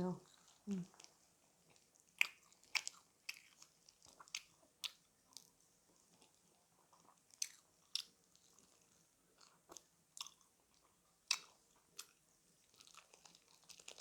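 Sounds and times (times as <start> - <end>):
crunchy chewing: 0.2 - 14.0.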